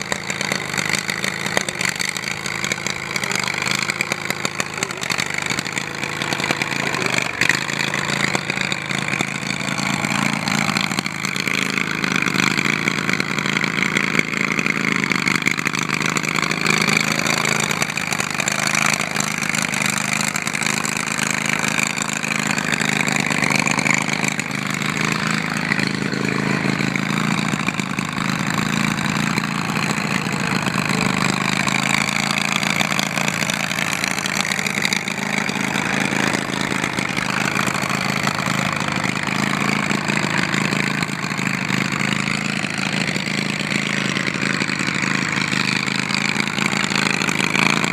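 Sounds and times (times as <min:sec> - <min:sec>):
lawn mower engine running: 0:00.0 - 0:47.9.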